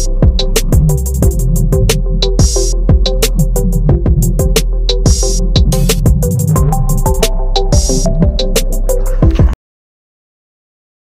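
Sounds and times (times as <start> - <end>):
electronic music with drum beat: 0.0 - 9.6.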